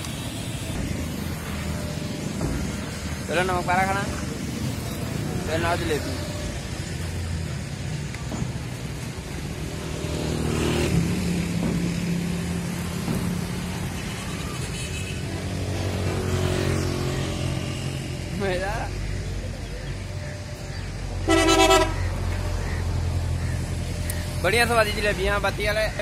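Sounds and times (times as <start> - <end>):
vehicle engines passing: 0.0 - 26.0.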